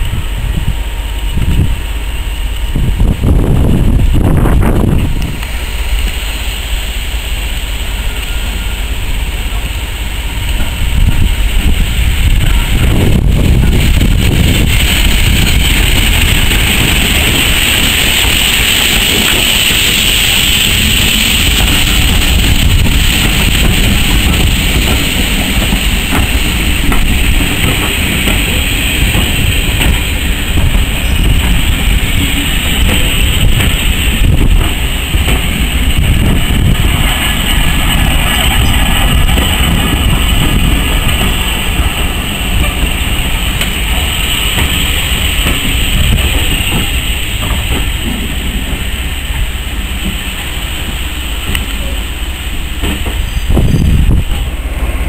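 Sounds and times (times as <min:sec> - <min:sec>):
railway carriages rumbling past: 0:00.0 - 0:55.0
wheels clicking over rail joints: 0:10.4 - 0:54.9.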